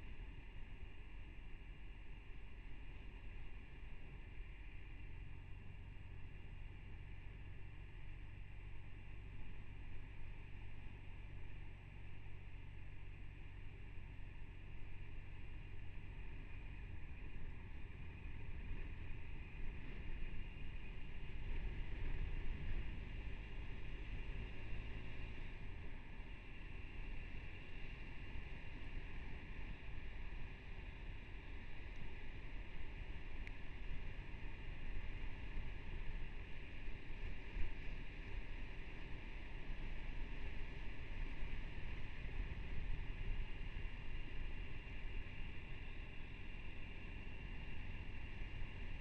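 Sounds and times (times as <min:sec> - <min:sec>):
motorcycle engine and road rumble: 0:00.0 - 0:49.0.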